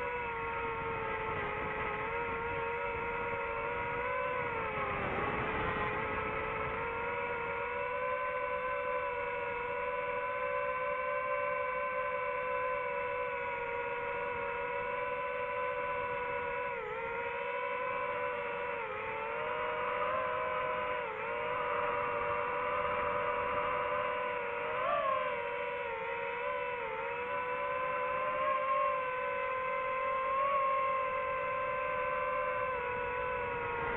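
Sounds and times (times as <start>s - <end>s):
drone propellers whining: 0.0s - 33.9s.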